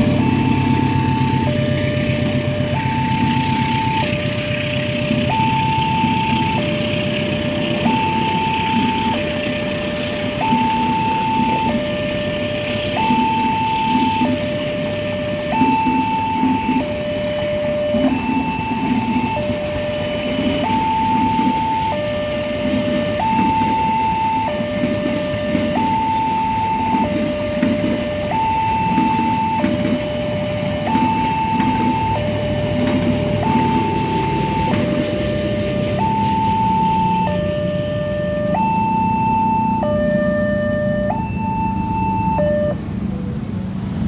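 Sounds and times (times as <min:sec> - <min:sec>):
level crossing two-tone alarm: 0:00.0 - 0:42.8
train coaches rumbling past: 0:00.0 - 0:44.0.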